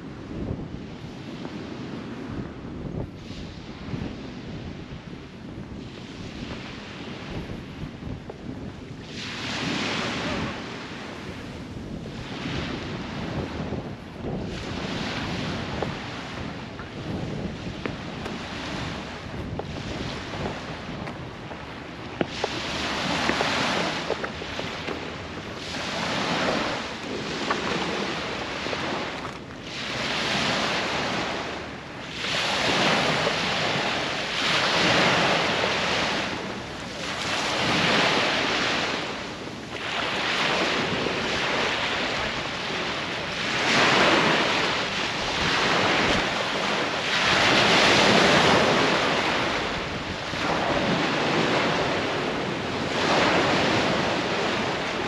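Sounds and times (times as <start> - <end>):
small waves breaking on shore: 0.0 - 55.0
wind on microphone: 0.0 - 55.0.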